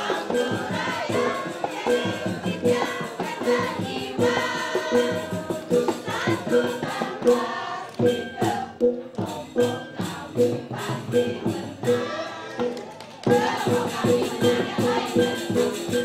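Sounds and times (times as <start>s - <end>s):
music with steady beat: 0.0s - 16.0s
women singing in unison: 0.0s - 16.0s.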